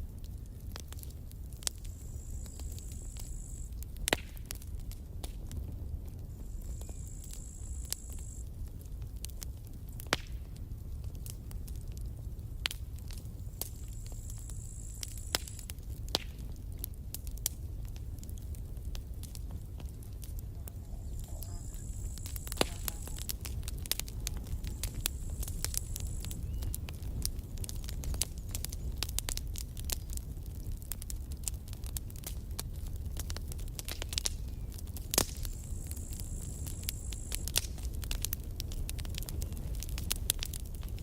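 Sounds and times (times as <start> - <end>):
campfire wood crackling and popping: 0.0 - 41.0
low rumble of flames: 0.0 - 41.0.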